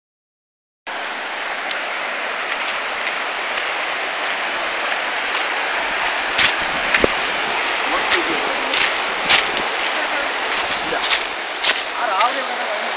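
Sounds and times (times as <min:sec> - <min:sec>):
running water rushing: 0:00.9 - 0:12.9.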